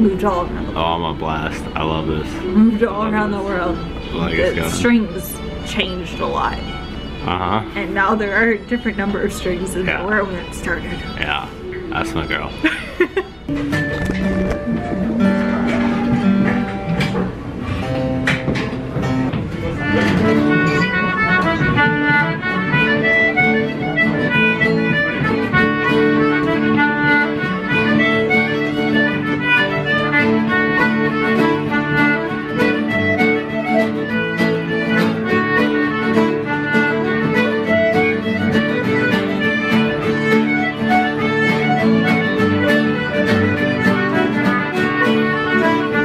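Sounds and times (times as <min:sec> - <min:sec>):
bluegrass string-band music: 0:00.0 - 0:46.0.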